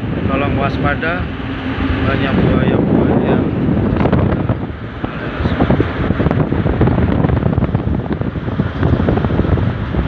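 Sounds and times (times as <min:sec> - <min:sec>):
boat engine rumble: 0:00.0 - 0:10.0
wind buffeting microphone: 0:00.0 - 0:10.0.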